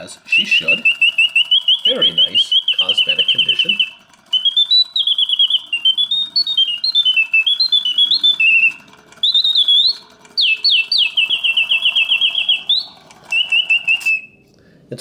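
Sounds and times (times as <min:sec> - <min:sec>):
mechanical singing bird whistle: 0:00.0 - 0:14.4.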